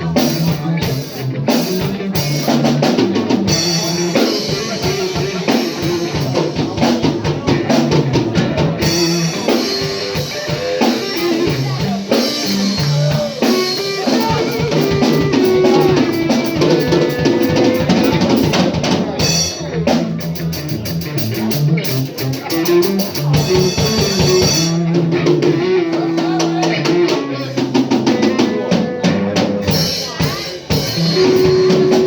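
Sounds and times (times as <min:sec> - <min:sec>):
drum kit steady beat: 0:00.0 - 0:32.0
live band instrumental: 0:00.0 - 0:32.0.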